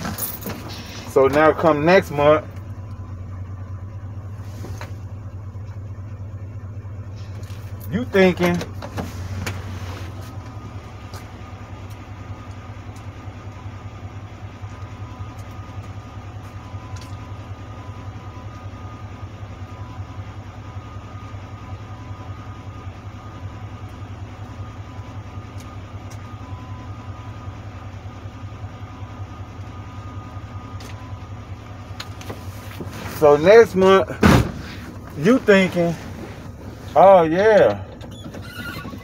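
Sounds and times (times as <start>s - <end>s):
faint steady whine: 0.0s - 39.0s
vehicle engine idling: 0.0s - 39.0s.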